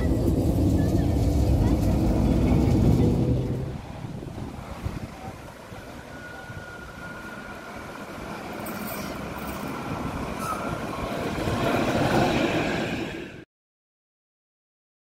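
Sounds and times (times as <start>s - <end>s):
railcar passing on track: 0.0s - 13.5s.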